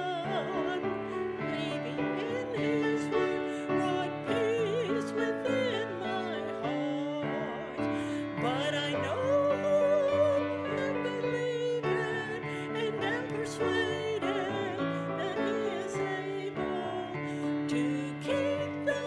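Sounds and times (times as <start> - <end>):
piano accompaniment: 0.0 - 19.0
woman singing a hymn: 0.0 - 19.0.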